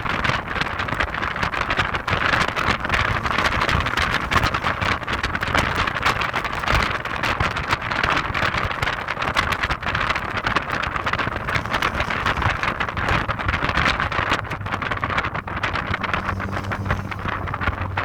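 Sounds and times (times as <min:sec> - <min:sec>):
faint car and road hum: 0:00.0 - 0:18.0
wind buffeting microphone: 0:00.0 - 0:18.0.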